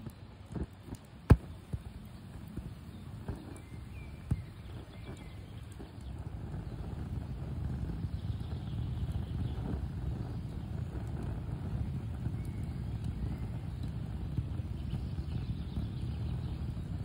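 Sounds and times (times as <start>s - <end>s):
campfire pops and crackles: 0.0s - 17.0s
low rumble of stove flame: 0.0s - 17.0s.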